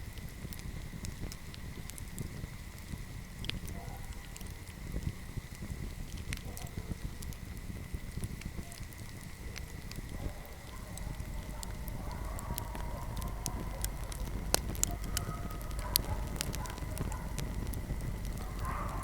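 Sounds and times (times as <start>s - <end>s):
faint whistle from burning wood: 0.0s - 19.0s
fire pops and snaps: 0.0s - 19.0s
low rumble of flame: 0.0s - 19.0s.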